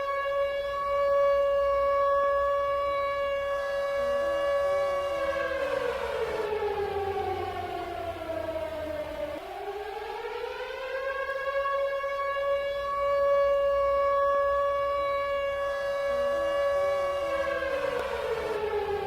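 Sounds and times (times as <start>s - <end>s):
fire siren wailing: 0.0s - 19.0s.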